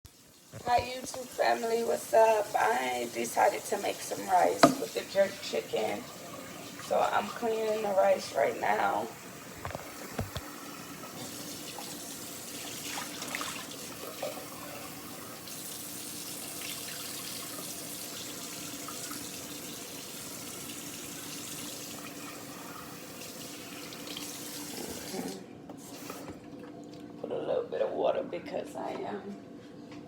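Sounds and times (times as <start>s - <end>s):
faucet running into sink: 0.1s - 27.0s.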